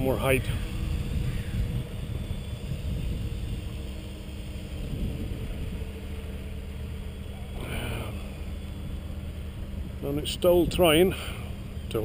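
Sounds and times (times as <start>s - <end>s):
drone motors humming: 0.0s - 12.0s
wind buffeting microphone: 0.0s - 12.0s.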